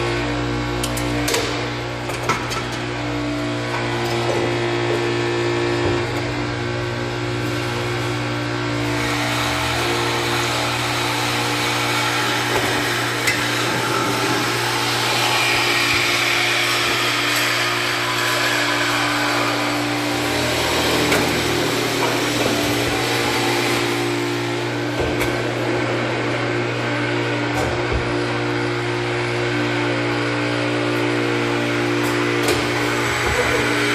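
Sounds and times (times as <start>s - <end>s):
power tool cutting pipe: 0.0s - 33.9s.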